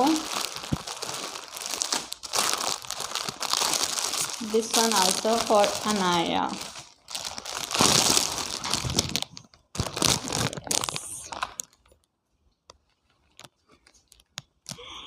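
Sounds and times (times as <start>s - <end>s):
packaging rustling: 0.0s - 12.1s, 12.8s - 14.8s.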